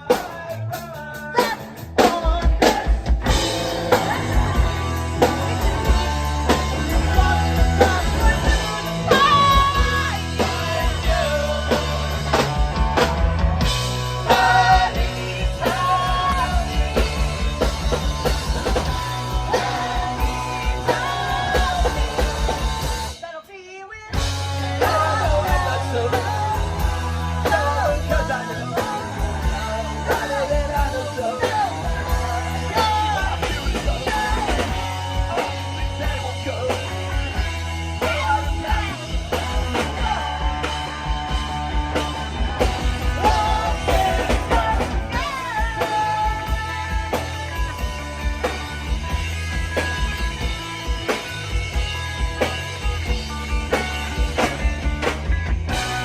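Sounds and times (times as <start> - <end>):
bass guitar: 0.0 - 23.4, 24.0 - 56.0
electric guitars: 0.0 - 23.4, 24.0 - 56.0
person singing: 0.0 - 47.9
drums: 0.0 - 56.0.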